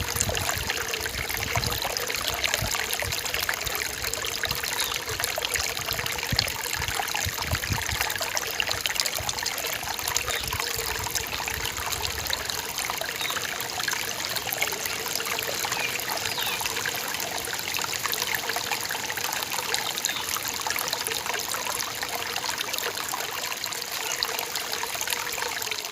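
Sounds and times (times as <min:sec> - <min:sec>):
stream babbling over rocks: 0:00.0 - 0:25.9.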